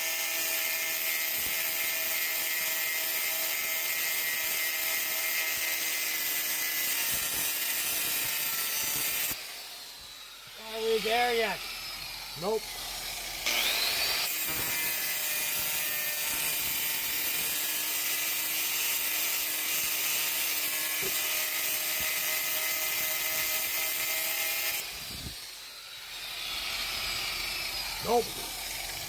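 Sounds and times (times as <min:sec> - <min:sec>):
angle grinder cutting metal: 0:00.0 - 0:29.0.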